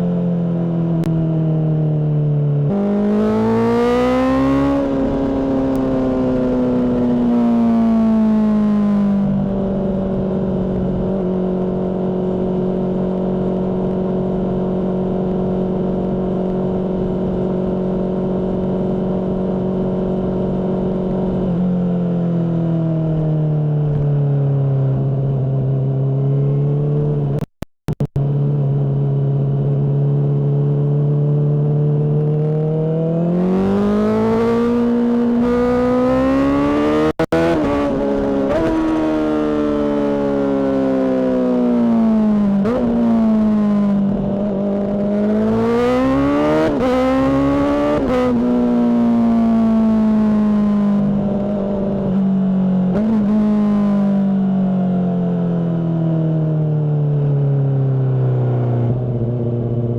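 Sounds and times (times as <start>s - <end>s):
motorcycle engine revving: 2.5s - 23.2s, 24.2s - 56.4s.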